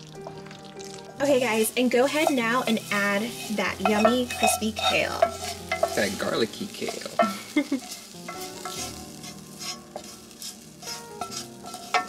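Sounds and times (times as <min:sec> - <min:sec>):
light crackling of greens: 0:00.0 - 0:12.0
soft background music: 0:00.0 - 0:12.0
utensil scraping a pot: 0:00.9 - 0:12.0.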